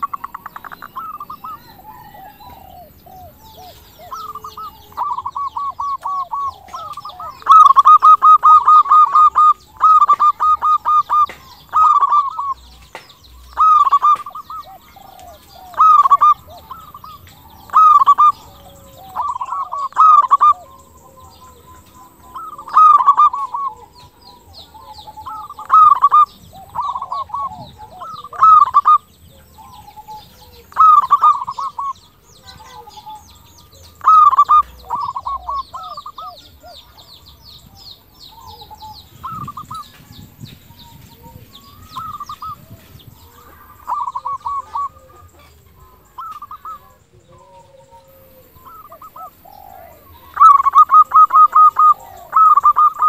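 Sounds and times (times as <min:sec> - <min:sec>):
dove cooing: 0:00.0 - 0:53.0.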